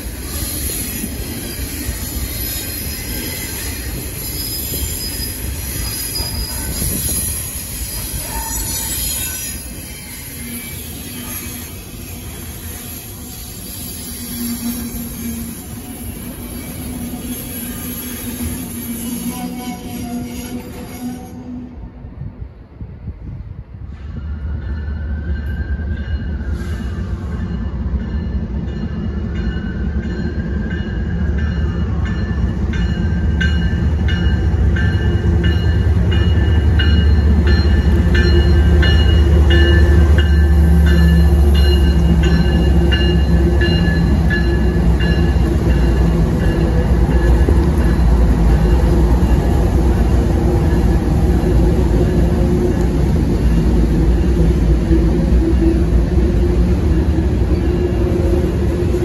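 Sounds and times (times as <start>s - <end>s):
diesel locomotives rumbling: 0.0s - 59.0s
freight train passing: 0.0s - 59.0s.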